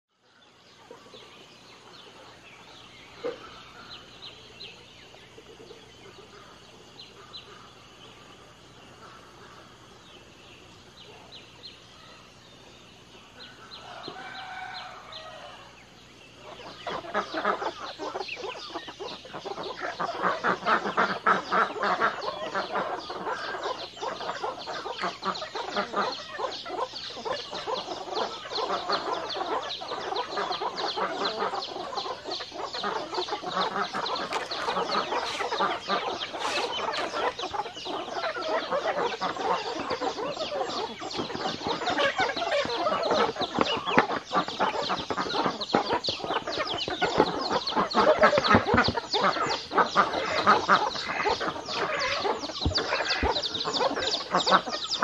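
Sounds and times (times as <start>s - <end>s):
chickens clucking: 0.6s - 10.1s, 12.6s - 55.0s.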